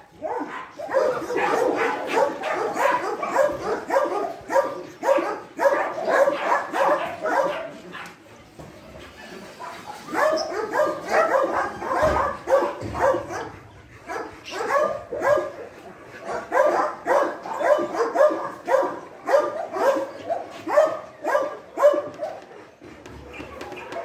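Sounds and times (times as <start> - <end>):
dog barking: 0.1 - 7.8, 10.1 - 22.4.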